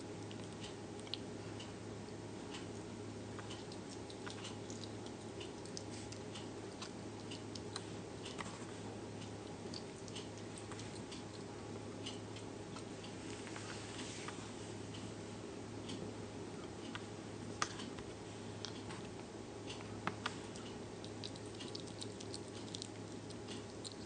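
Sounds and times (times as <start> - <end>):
animal chewing fruit: 0.0 - 15.1, 16.7 - 24.0
steady low hum: 0.0 - 24.0.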